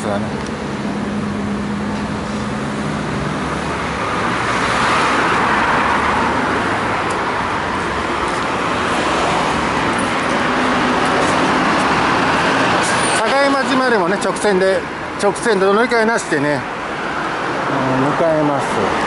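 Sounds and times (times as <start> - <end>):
road traffic passing: 0.0 - 19.0
car passing: 0.6 - 19.0.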